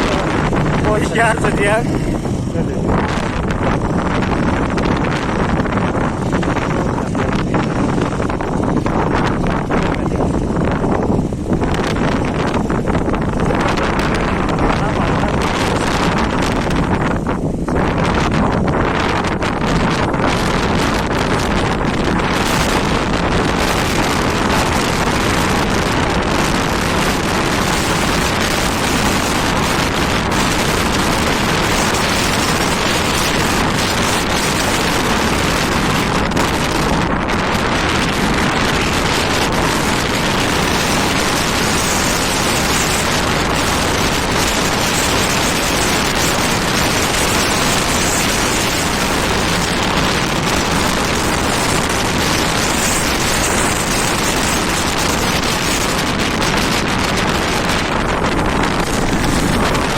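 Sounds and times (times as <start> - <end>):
strong wind on microphone: 0.0 - 59.9.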